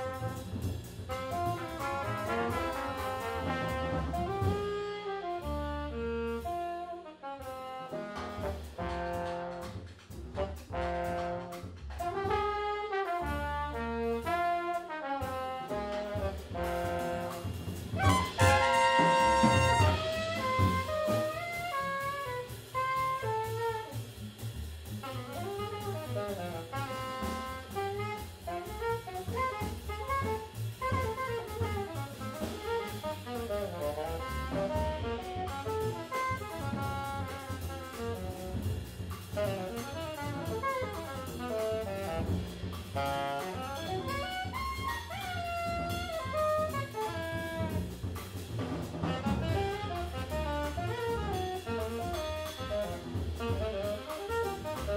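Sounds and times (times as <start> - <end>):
busy drum kit: 0.0 - 54.9
horn lines: 0.0 - 54.9
live jazz band: 0.0 - 54.9
walking bass: 0.0 - 54.9.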